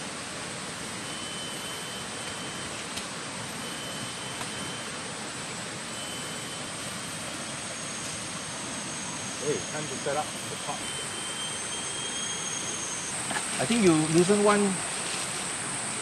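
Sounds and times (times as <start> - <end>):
high insect tones: 0.0 - 16.0
steady hiss: 0.0 - 16.0.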